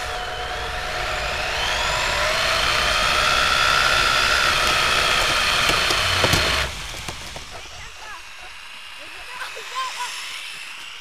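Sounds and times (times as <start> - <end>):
rc car motor whining: 0.0 - 11.0.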